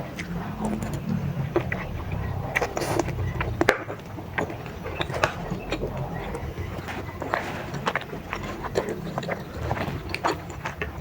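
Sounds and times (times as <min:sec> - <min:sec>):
close-miked chewing: 0:00.0 - 0:11.0
mouth clicks and smacks: 0:00.0 - 0:11.0.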